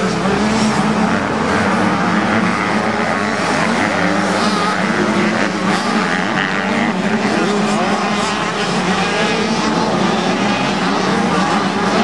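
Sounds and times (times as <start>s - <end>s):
motocross bikes racing: 0.0s - 12.0s.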